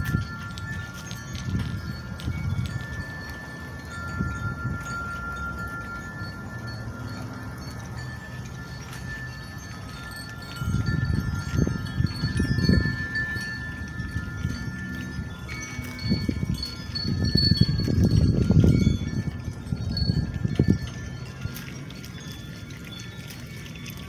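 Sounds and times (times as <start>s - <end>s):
wind gusts on microphone: 0.0s - 23.9s
wind chimes ringing: 0.0s - 24.0s.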